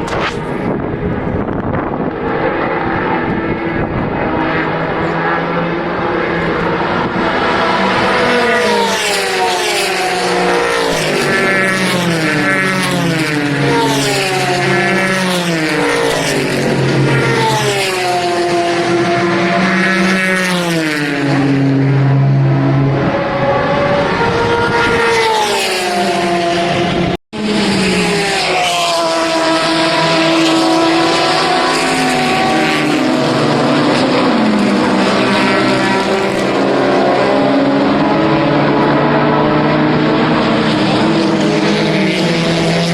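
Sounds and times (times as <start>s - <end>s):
racing car engines passing: 0.0s - 42.9s.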